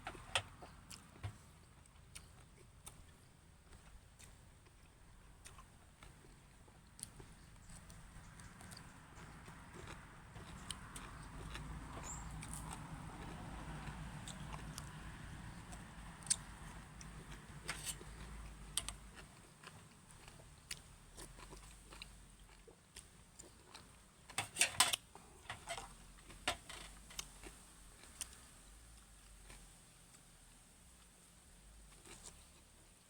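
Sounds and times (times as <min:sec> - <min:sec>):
person chewing and crunching: 0:00.0 - 0:29.8, 0:31.9 - 0:32.8.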